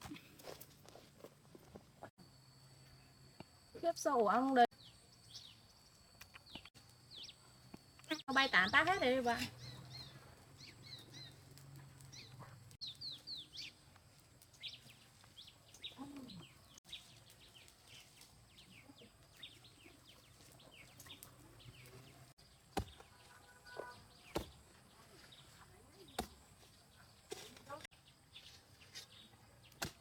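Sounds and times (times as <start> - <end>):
birds chirping: 4.7 - 13.9, 14.6 - 29.8.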